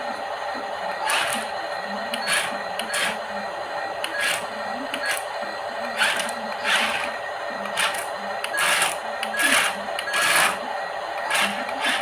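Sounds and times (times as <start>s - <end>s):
small electric motor running: 1.0s - 3.3s, 4.0s - 12.0s.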